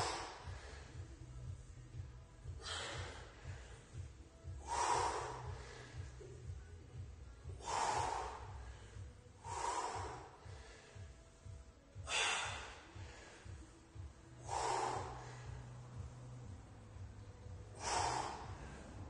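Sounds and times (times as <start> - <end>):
man's forceful breaths of exertion: 0.0 - 19.0.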